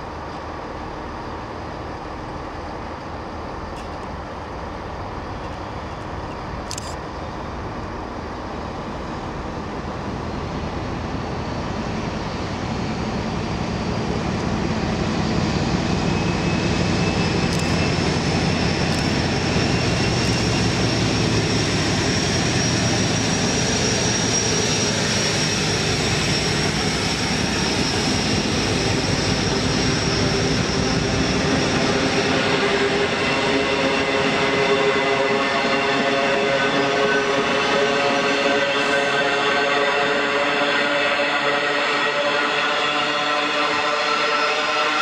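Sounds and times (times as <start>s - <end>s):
diesel locomotive engine: 0.0s - 45.0s.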